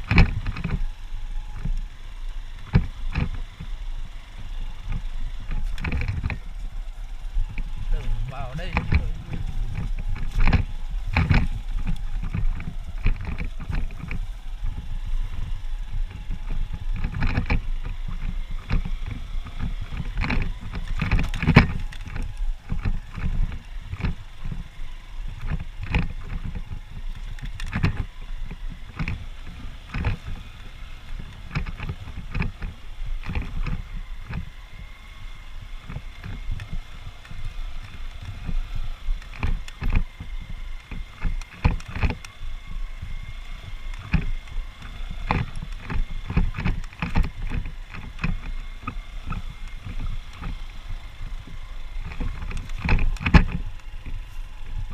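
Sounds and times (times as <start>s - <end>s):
motorcycle engine running: 0.0s - 54.9s
wind on microphone: 0.0s - 54.9s.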